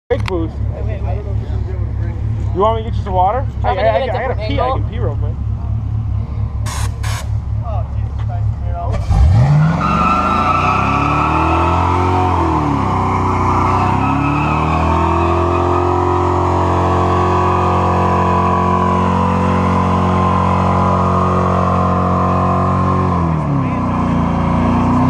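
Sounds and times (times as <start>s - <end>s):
truck engine at high revs: 4.8s - 25.0s.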